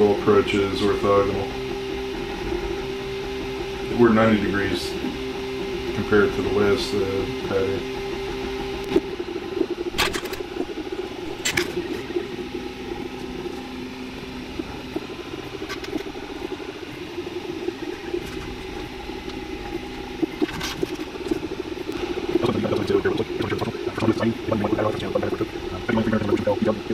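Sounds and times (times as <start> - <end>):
stepper motors buzzing: 0.0 - 26.9.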